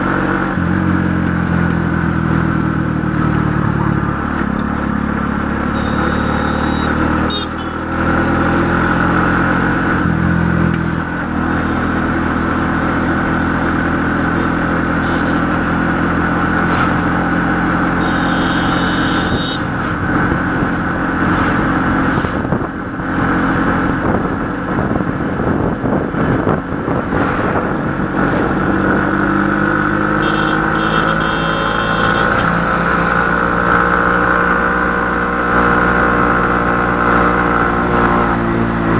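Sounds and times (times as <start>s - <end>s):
vehicle engine running: 0.0s - 38.7s.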